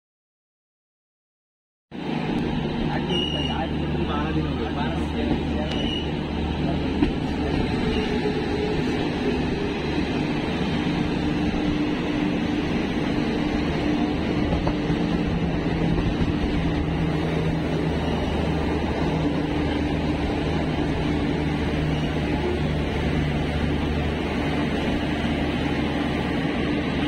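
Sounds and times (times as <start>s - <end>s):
train rumbling on rails: 1.9s - 27.0s
locomotive engine drone: 2.0s - 27.0s.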